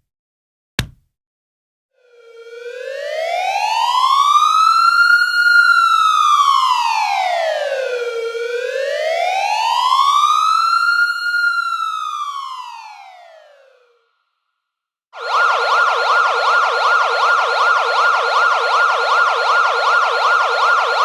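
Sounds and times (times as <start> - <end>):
siren wailing: 2.0 - 13.9, 15.2 - 21.0.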